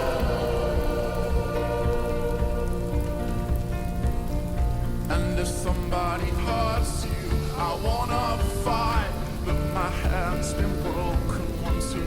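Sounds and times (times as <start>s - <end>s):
fireplace crackling: 0.0s - 12.0s
slow piano chords: 0.0s - 12.0s
snowstorm wind: 0.0s - 12.0s.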